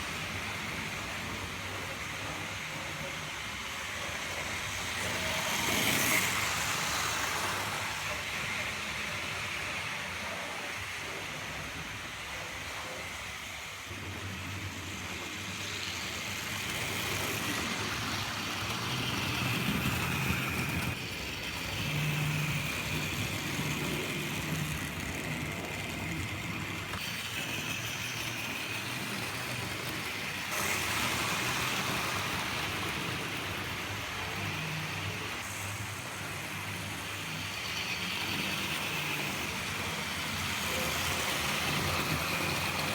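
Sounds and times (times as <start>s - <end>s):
model train motors humming: 0.0s - 42.9s
wheels rattling on rails: 0.0s - 42.9s.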